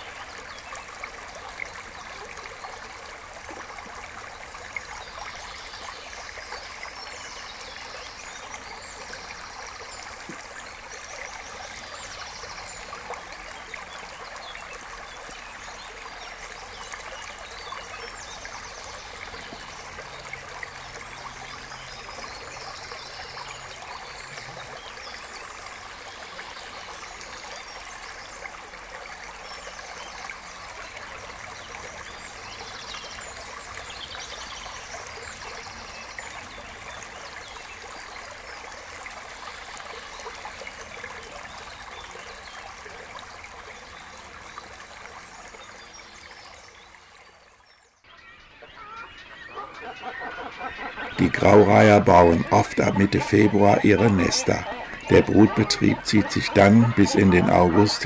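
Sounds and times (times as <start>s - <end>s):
brook water trickling over stones: 0.0s - 49.0s, 51.2s - 58.0s.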